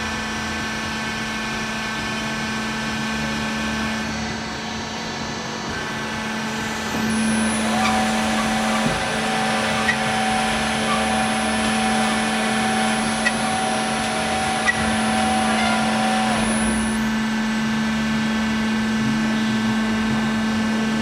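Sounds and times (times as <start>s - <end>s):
metal bandsaw humming: 3.6s - 20.8s.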